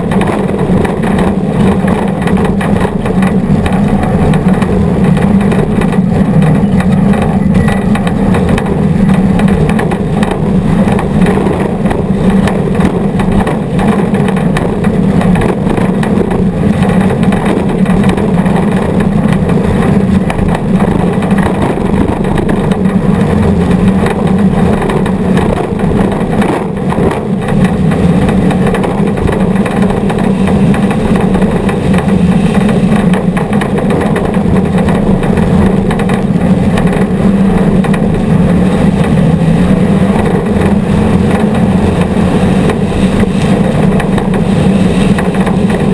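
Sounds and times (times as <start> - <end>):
off-road vehicle engine running hard: 0.0 - 45.9
ride noise: 0.0 - 45.9
wind noise: 0.0 - 45.9.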